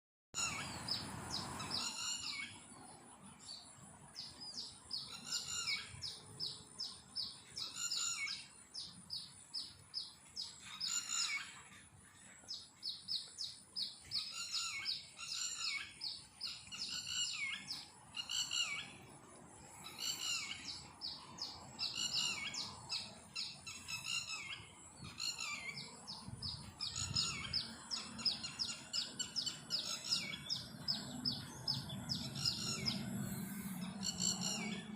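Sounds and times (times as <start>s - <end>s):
bird singing high chirps: 0.4s - 34.9s.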